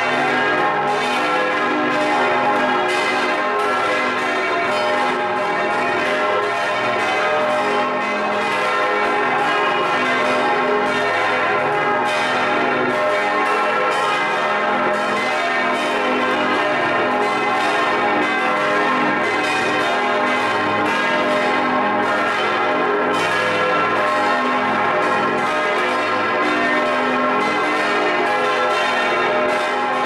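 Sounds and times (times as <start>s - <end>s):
church bells ringing in a peal: 0.0s - 30.0s.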